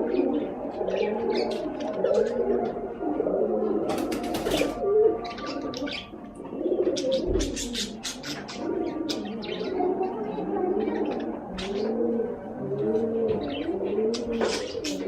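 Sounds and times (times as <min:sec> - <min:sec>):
low rolling bird cooing: 0:00.0 - 0:15.0.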